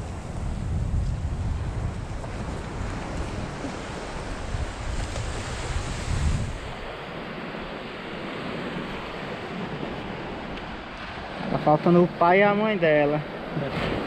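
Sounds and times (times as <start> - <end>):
wind buffeting microphone: 0.0 - 11.8
surf washing on beach: 0.0 - 14.0.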